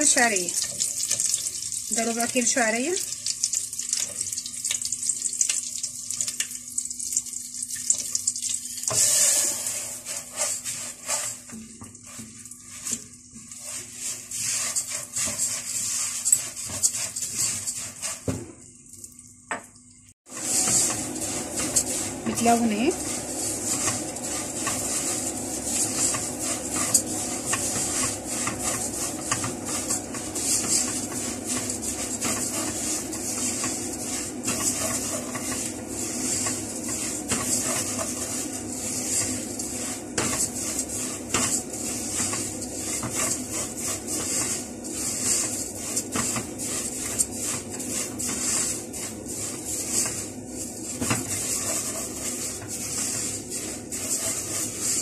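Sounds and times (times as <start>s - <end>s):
steady sizzling hiss: 0.0s - 55.0s
spatula scraping noodles in pot: 8.9s - 18.4s, 20.3s - 55.0s.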